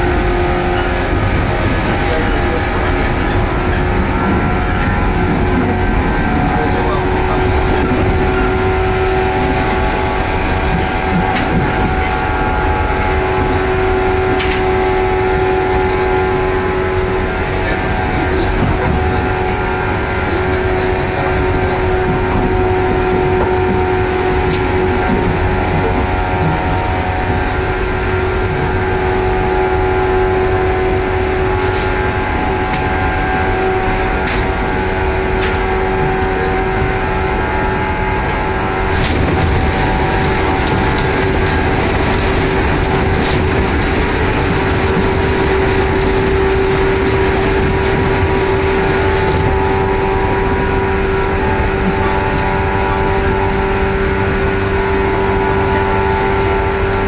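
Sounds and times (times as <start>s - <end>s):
constant hum: 0.0s - 57.0s
train rumbling: 0.0s - 57.0s.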